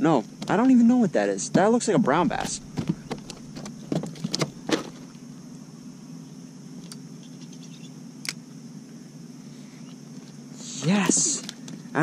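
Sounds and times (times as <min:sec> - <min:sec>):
low electric hum: 0:00.0 - 0:12.0.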